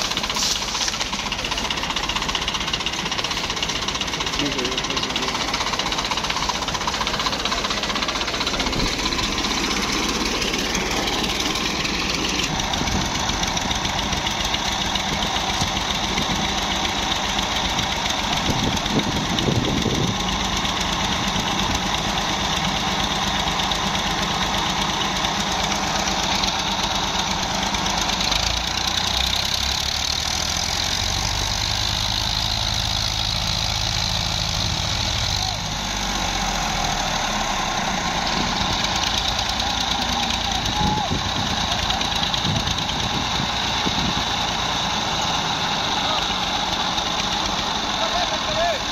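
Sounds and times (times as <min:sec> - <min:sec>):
tractor diesel engines rumbling: 0:00.0 - 0:48.9.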